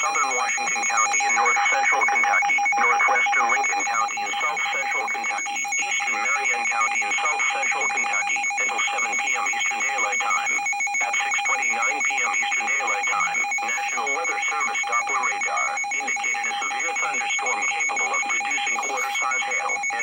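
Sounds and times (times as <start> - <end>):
person reading a message: 0.0 - 20.0.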